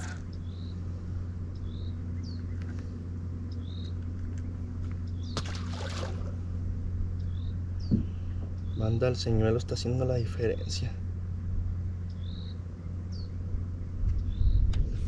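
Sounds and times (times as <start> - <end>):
boat motor humming: 0.0 - 14.9.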